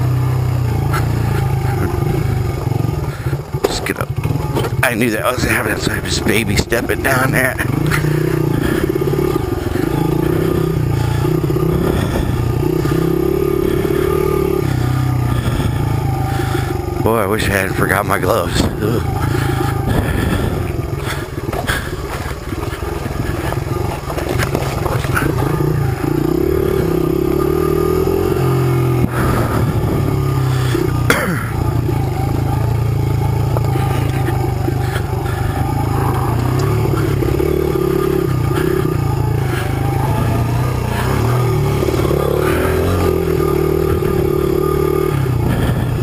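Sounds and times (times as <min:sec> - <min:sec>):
dirt bike engine: 0:00.0 - 0:46.0.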